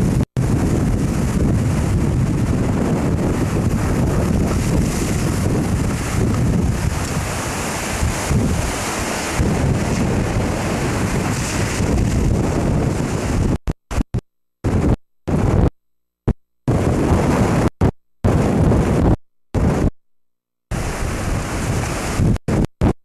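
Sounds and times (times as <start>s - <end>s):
wind buffeting microphone: 0.0s - 14.0s, 14.6s - 15.7s, 16.7s - 19.9s, 20.7s - 22.9s.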